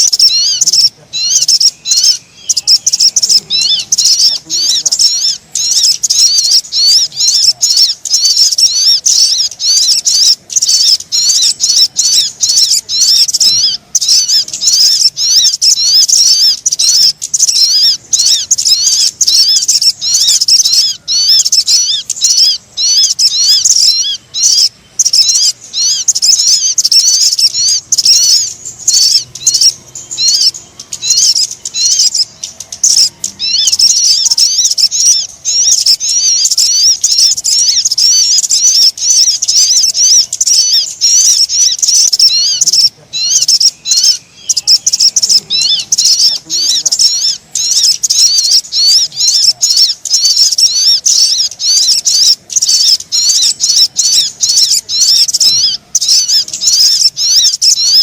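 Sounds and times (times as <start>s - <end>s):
high twittering bird chirps: 0.0s - 58.0s.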